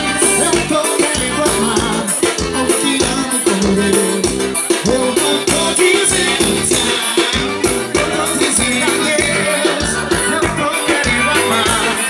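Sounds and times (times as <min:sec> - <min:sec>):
band playing upbeat dance music: 0:00.0 - 0:12.0
bouncing bass line: 0:00.0 - 0:12.0.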